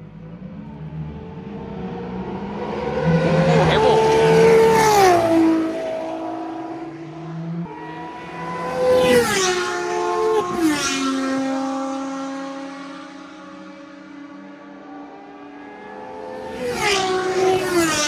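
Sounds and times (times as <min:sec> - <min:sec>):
race cars passing at speed: 0:00.0 - 0:18.0.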